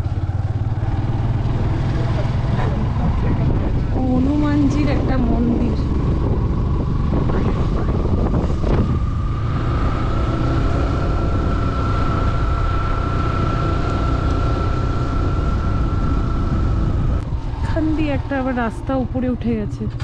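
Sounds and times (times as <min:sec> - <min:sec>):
motorcycle engine running: 0:00.0 - 0:20.0
wind buffeting microphone: 0:00.0 - 0:20.0
steady whine: 0:02.6 - 0:19.9.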